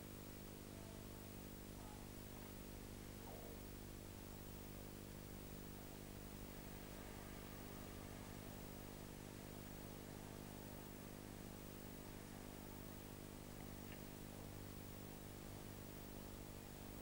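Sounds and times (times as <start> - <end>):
faint electrical hum with hiss: 0.0 - 17.0.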